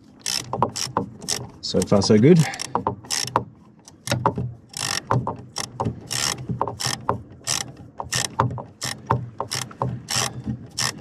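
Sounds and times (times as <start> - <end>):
ratchet clicking: 0.2 - 11.0.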